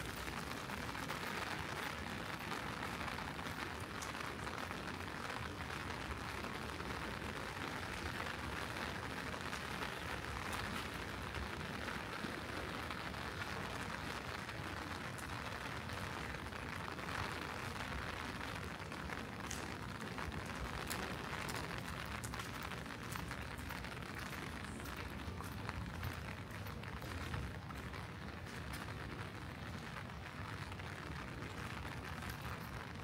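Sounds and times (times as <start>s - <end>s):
raindrop ticks: 0.0s - 33.0s
steady rain hiss: 0.0s - 33.0s.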